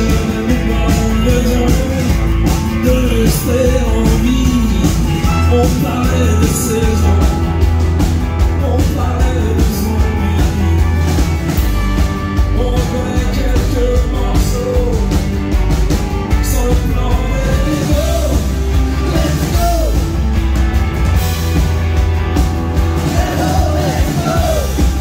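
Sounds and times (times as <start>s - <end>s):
drum kit: 0.0s - 25.0s.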